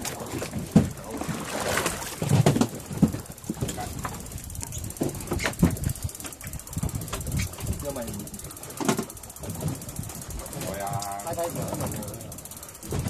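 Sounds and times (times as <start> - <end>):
fishing boat engine rumble: 0.0 - 13.0.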